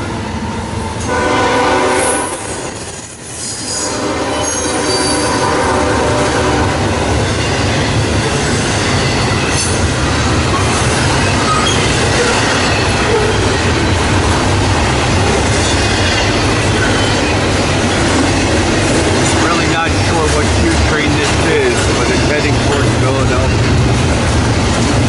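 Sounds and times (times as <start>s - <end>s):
freight train rumbling on rails: 0.0s - 25.0s.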